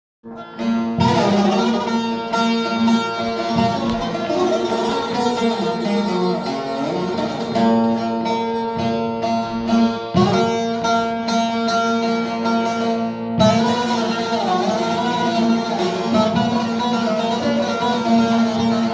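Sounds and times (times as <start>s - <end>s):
plucked string instrument music: 0.2s - 18.9s.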